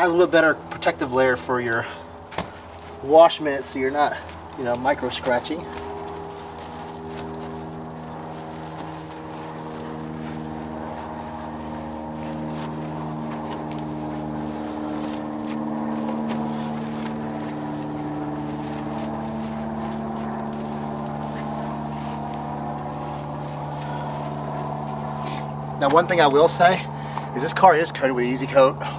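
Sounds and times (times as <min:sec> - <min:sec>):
motor droning: 0:00.0 - 0:28.9.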